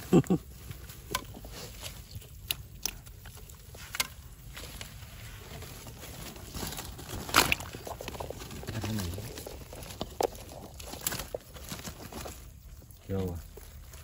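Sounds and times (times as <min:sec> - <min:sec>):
fish trap rustling and crackling: 0:00.2 - 0:14.0.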